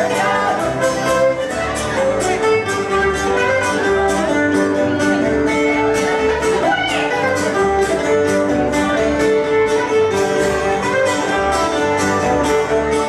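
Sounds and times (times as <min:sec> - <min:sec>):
fiddle melody: 0:00.0 - 0:13.0
guitar: 0:00.0 - 0:13.0.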